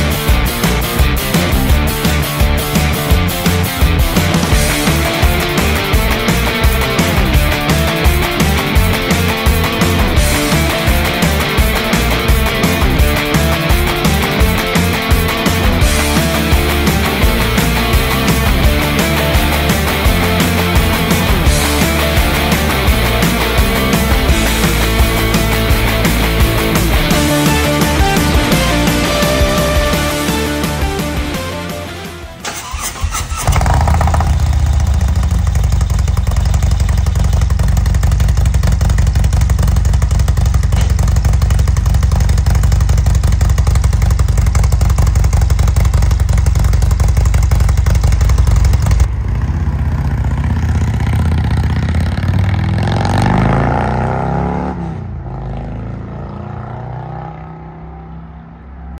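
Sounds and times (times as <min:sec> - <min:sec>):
motorcycle engine running: 0:00.0 - 0:57.0
motorcycle riding by: 0:03.0 - 0:59.0.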